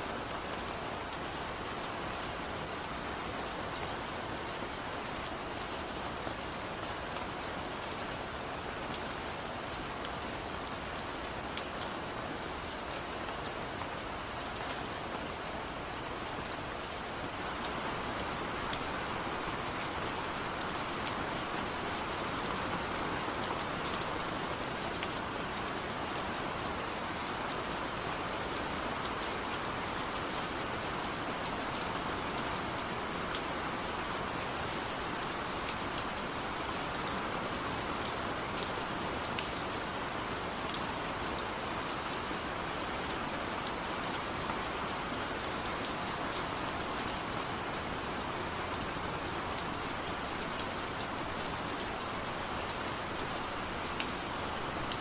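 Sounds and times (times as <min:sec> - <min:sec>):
raindrops hitting surfaces: 0:00.0 - 0:55.0.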